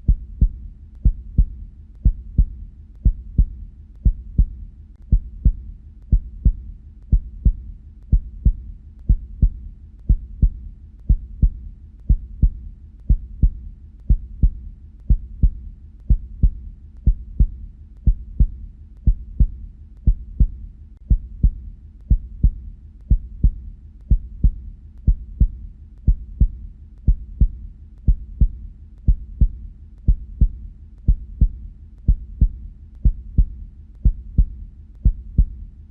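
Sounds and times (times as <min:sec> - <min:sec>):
heartbeat thumps: 0:00.0 - 0:35.9.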